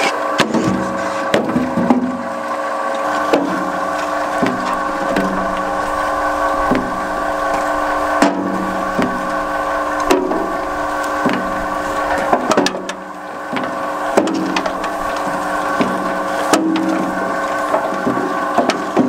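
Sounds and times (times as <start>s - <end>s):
machine drone: 0.7s - 19.0s.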